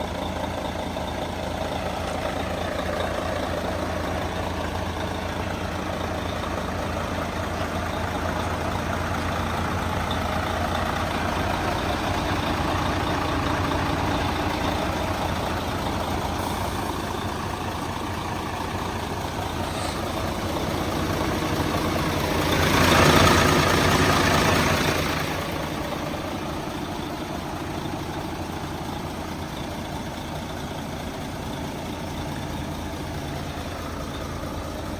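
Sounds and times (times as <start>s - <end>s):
truck diesel engine idling: 0.0s - 34.9s.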